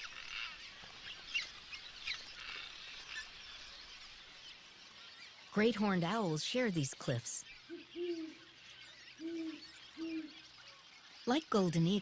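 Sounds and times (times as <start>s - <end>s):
swallows twittering chatter: 0.0s - 12.0s.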